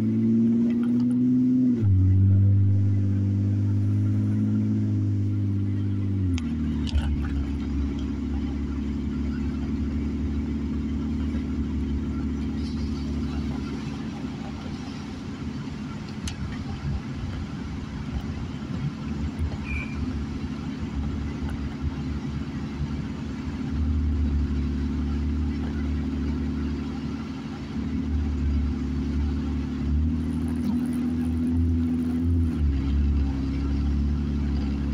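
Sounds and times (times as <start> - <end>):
car engine and tyres hum: 0.0 - 34.9.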